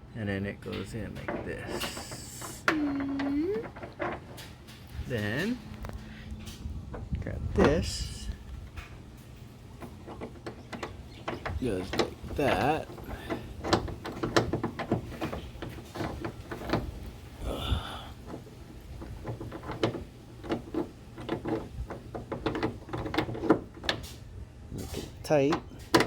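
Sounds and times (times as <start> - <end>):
metal hardware clicking and knocking: 0.6 - 26.0.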